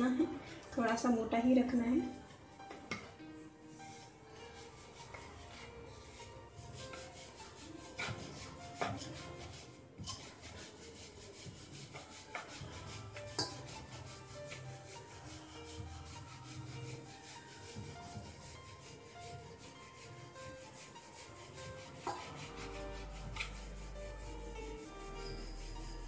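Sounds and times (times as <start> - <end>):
rolling pin rolling dough: 2.0 - 26.0.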